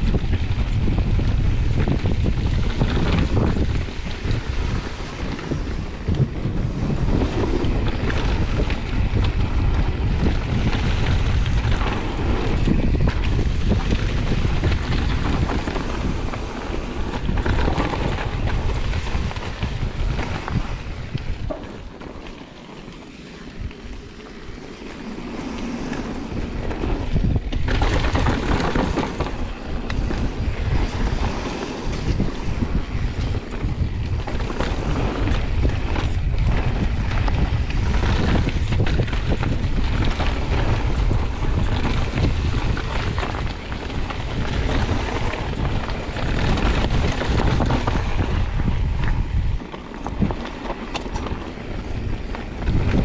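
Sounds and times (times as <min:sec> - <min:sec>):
mountain bike rumbling and rattling: 0:00.0 - 0:53.0
wind buffeting microphone: 0:00.0 - 0:53.0.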